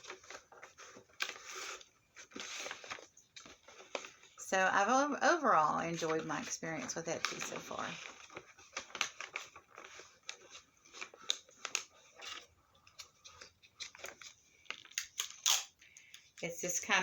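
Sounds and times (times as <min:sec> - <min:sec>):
packaging rustling and crinkling: 0:00.0 - 0:16.4.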